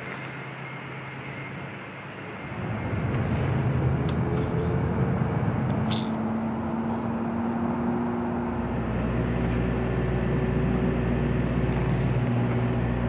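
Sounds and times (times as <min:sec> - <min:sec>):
steady hum: 0:00.0 - 0:13.0
vehicle engine running: 0:00.0 - 0:13.0.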